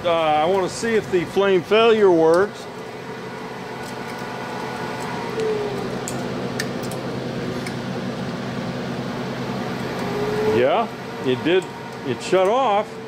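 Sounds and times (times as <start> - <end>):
furnace motors humming: 0.0 - 13.0.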